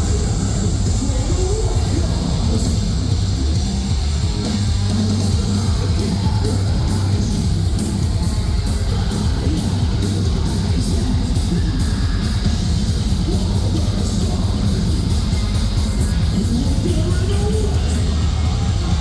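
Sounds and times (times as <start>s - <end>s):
metalcore band playing: 0.0s - 19.0s.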